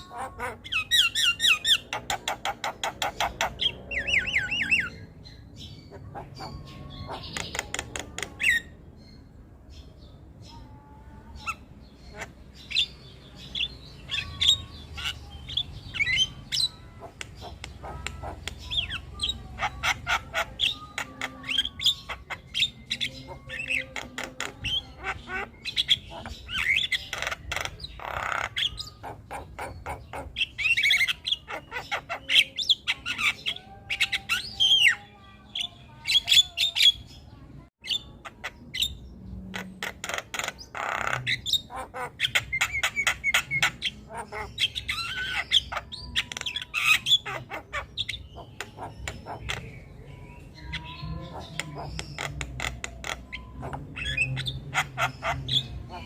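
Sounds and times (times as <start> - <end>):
myna bird singing: 0.0 - 56.0.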